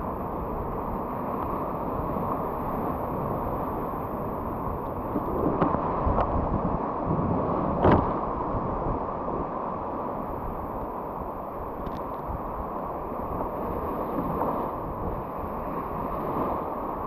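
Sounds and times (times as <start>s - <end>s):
wind buffeting microphone: 0.0s - 9.6s, 10.2s - 17.0s.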